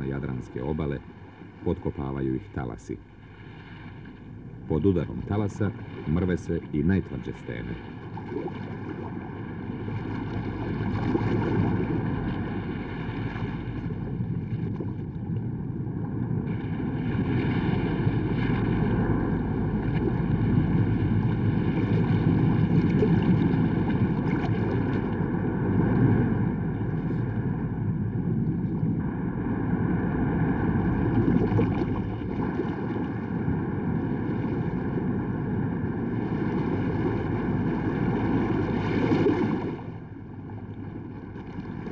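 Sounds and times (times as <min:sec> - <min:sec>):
sea waves against rocks: 0:00.0 - 0:41.9.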